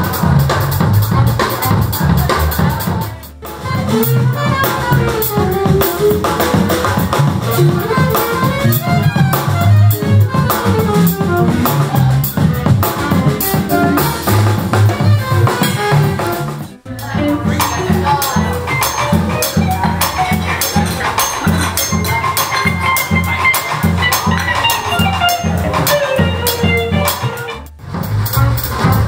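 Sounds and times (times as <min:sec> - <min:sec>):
drum kit groove: 0:00.0 - 0:29.0
live band music: 0:00.0 - 0:29.0
eight-string guitar melody: 0:03.3 - 0:27.8.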